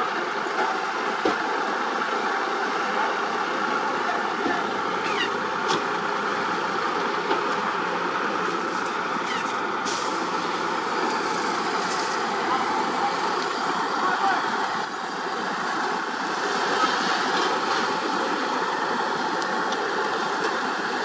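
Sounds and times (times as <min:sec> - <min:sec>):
dump truck diesel engines running: 0:00.0 - 0:21.0.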